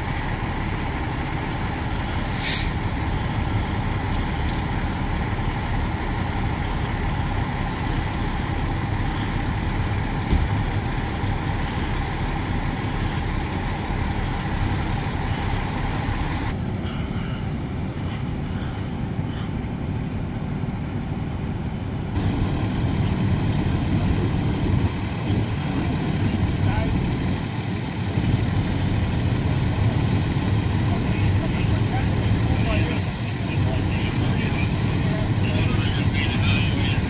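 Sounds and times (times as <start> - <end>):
diesel engines idling: 0.0 - 37.0.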